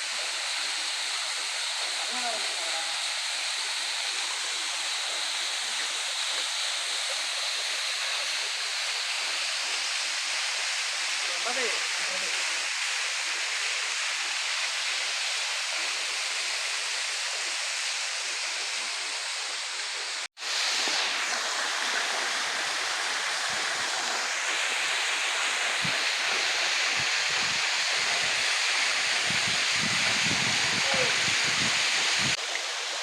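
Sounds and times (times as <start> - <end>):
waterfall splashing: 0.0 - 33.0.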